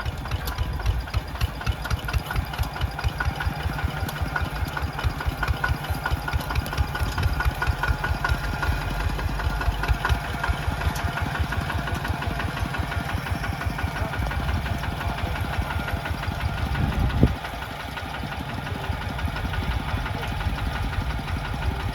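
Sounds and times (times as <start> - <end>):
tractor engine knocking: 0.0 - 21.9.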